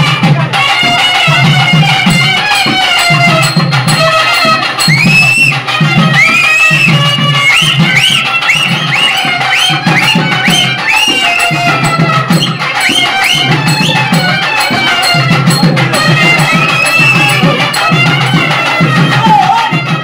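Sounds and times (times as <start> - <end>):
fast dense drumming: 0.0 - 20.0
high-pitched wind instrument: 0.0 - 20.0.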